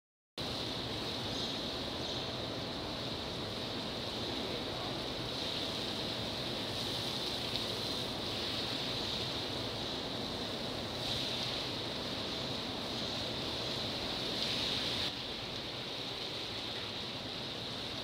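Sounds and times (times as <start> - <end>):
faint steady hum: 0.4 - 18.0
running water rushing: 0.4 - 18.0.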